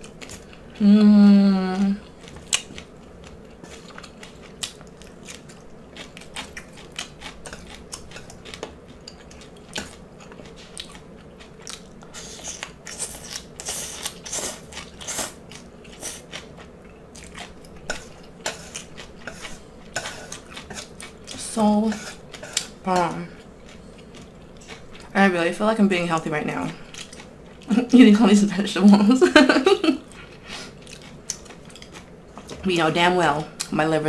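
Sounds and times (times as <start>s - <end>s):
chewing and crunching food: 0.0s - 0.9s, 1.7s - 28.0s, 30.0s - 33.8s.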